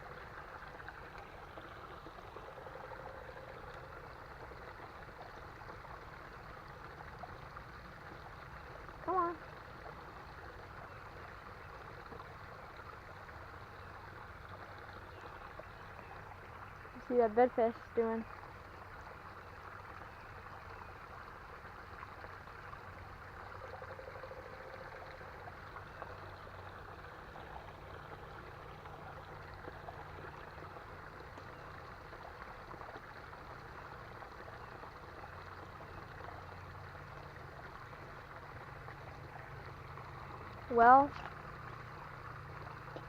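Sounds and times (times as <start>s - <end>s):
creek water running: 0.0s - 43.0s.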